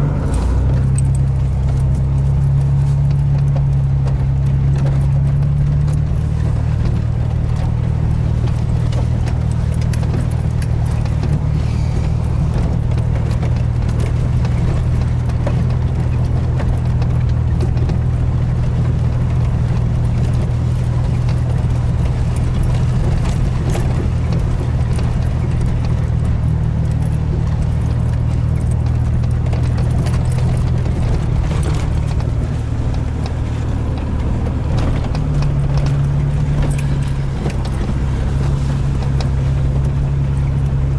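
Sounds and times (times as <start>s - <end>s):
engine droning inside vehicle: 0.0s - 40.9s
truck jolting clicks and knocks: 0.0s - 40.9s.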